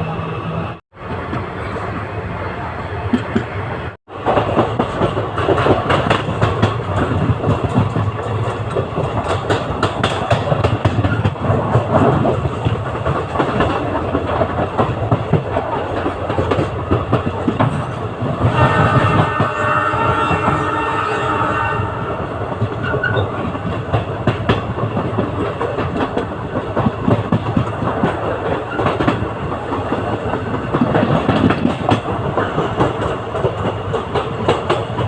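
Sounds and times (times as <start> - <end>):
train coaches rumbling: 0.0 - 35.0.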